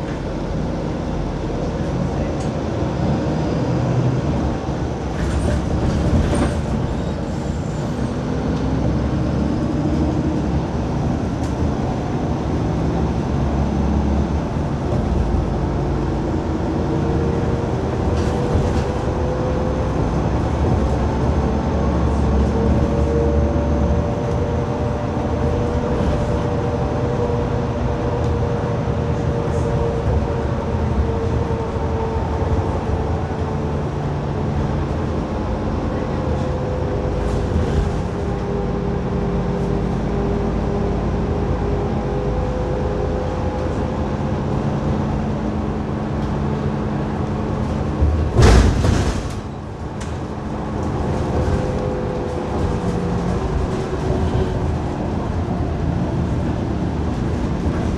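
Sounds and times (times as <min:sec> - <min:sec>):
bus engine and road rumble: 0:00.0 - 0:57.9.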